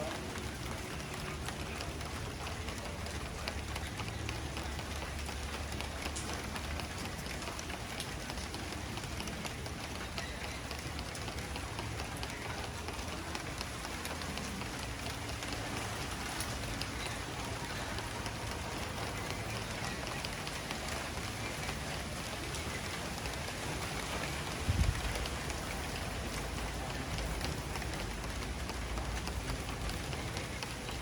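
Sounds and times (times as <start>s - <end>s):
raindrops ticking: 0.0s - 31.0s
steady rain hiss: 0.0s - 31.0s.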